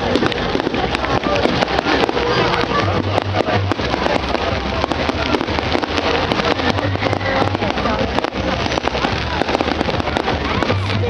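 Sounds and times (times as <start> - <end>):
fireworks crackling and popping: 0.0 - 11.0
steady background din: 0.0 - 11.0.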